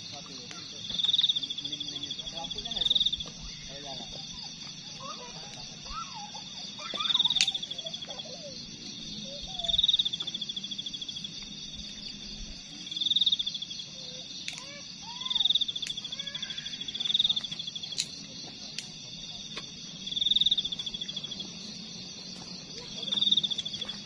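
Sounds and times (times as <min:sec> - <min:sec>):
insect chorus: 0:00.0 - 0:24.0
insect pulsed high trills: 0:00.0 - 0:24.0.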